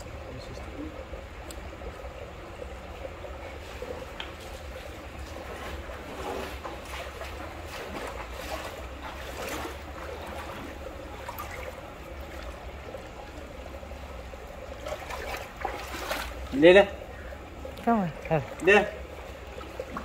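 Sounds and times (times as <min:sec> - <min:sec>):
water trickling on concrete: 0:00.0 - 0:20.0.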